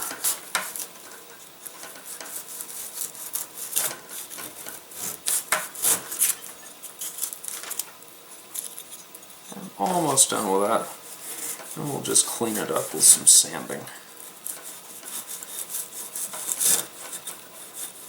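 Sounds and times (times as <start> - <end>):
hand tool scraping balsa wood: 0.0 - 7.6, 8.5 - 18.0.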